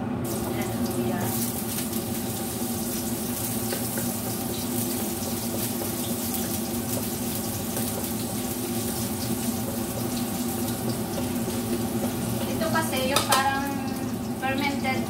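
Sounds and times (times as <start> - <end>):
squid sizzling in oil: 0.2 - 15.0.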